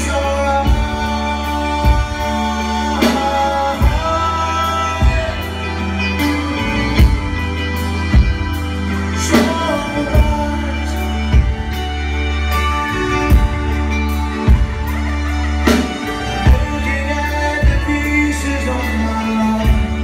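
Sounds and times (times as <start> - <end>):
man singing: 0.0 - 7.5, 8.8 - 13.4, 15.6 - 20.0
live rock band playing: 0.0 - 20.0.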